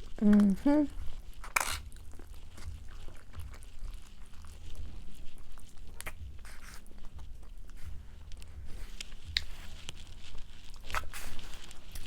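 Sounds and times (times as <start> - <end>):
chewing and wet mouth noises: 0.0 - 12.0.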